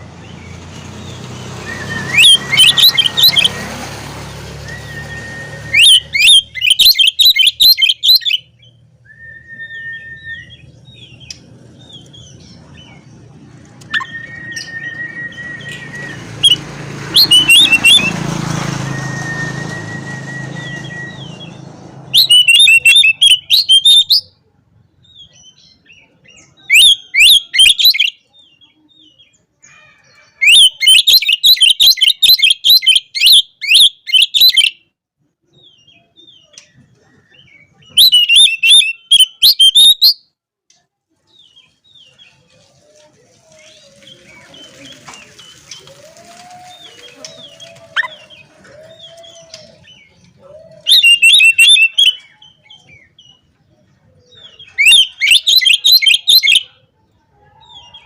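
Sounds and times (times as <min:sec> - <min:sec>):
bird singing high chattering phrases: 0:00.0 - 0:09.0, 0:09.6 - 0:18.8, 0:19.4 - 0:29.5, 0:30.1 - 0:34.8, 0:35.5 - 0:40.2, 0:41.3 - 0:58.0.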